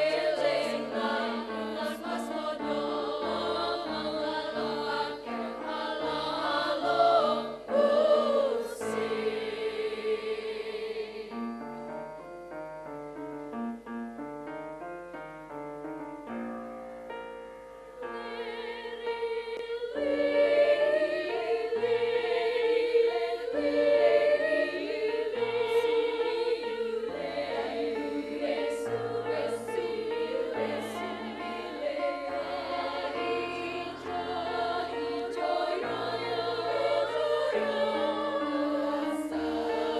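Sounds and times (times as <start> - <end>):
girls' choir singing: 0.0 - 12.0, 18.0 - 39.9.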